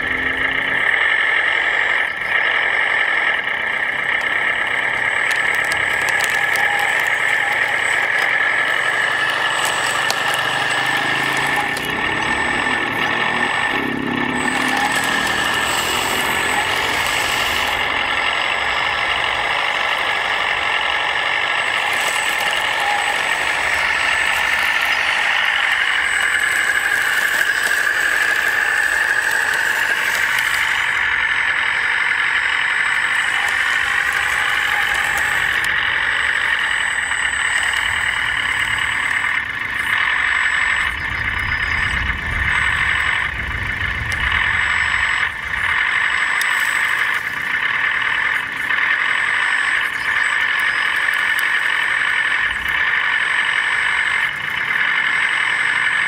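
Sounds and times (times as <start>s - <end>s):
whine of small motors: 0.0s - 56.0s.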